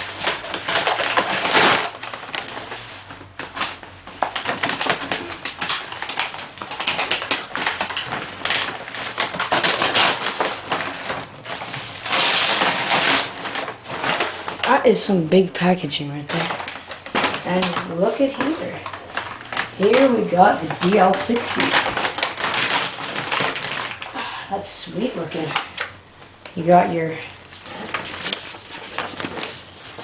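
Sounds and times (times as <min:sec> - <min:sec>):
packaging being torn open: 0:00.0 - 0:14.7, 0:16.3 - 0:24.2, 0:27.4 - 0:30.0.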